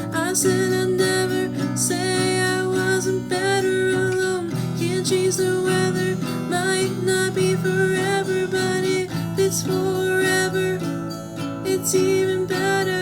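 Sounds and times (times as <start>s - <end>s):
acoustic guitar strumming: 0.0s - 13.0s
person singing: 0.0s - 13.0s.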